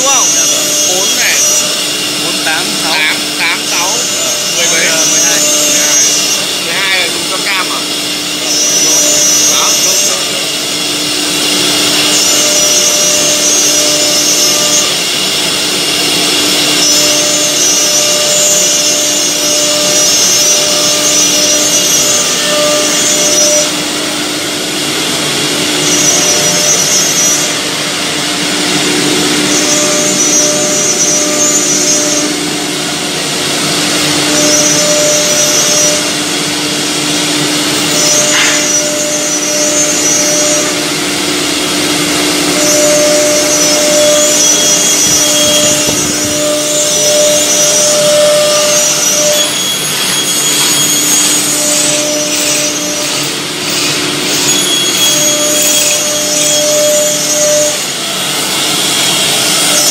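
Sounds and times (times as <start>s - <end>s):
higher router whine: 0.0s - 59.9s
wood router spindle whine: 0.0s - 59.9s.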